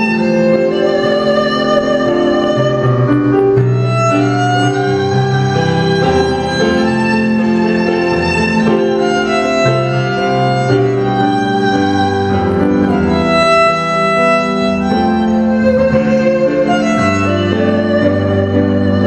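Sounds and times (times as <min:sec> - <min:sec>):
sustained low accompaniment: 0:00.0 - 0:19.0
violin slow melody: 0:00.0 - 0:19.0.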